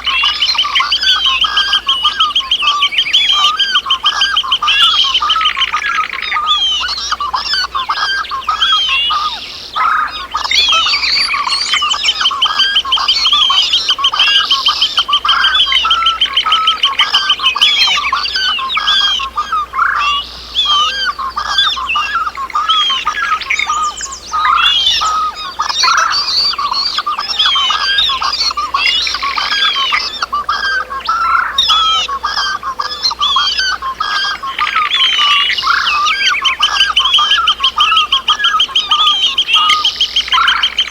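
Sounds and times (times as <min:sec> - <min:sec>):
birds calling and singing: 0:00.0 - 0:40.9.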